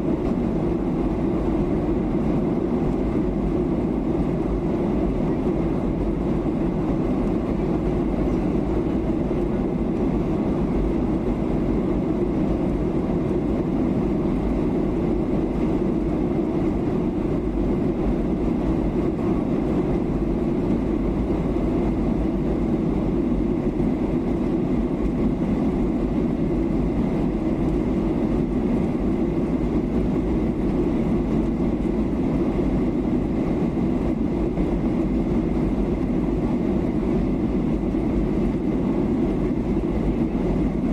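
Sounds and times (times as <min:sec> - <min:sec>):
jet engine drone: 0:00.0 - 0:40.9.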